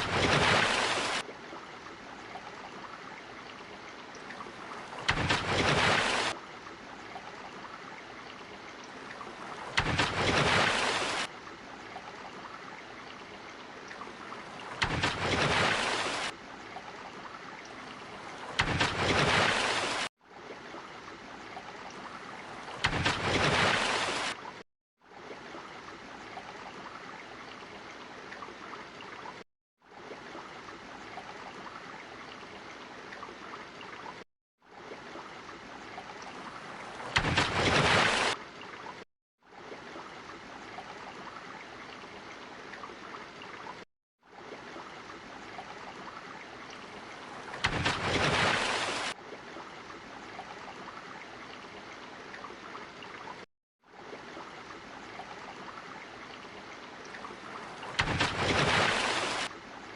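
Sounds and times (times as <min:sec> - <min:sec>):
rushing water: 0:00.0 - 0:59.9
water splashes: 0:00.0 - 0:59.9.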